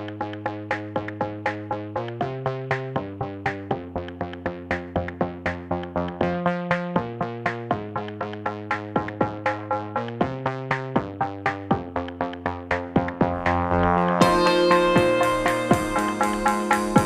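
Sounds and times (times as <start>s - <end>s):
held synthesizer chords: 0.0s - 17.0s
pulsing synthesizer notes: 0.0s - 17.0s.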